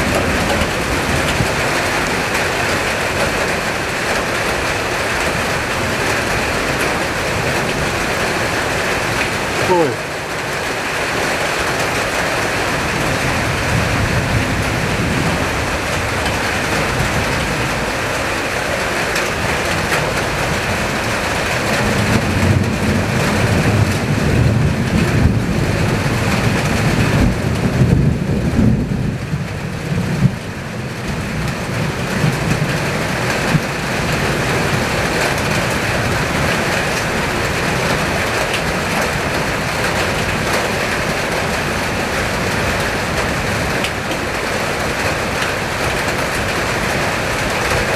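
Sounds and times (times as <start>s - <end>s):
thunder rumble: 0.0s - 9.7s, 11.6s - 44.1s
heavy rain: 0.0s - 47.9s
strong wind: 0.0s - 47.9s.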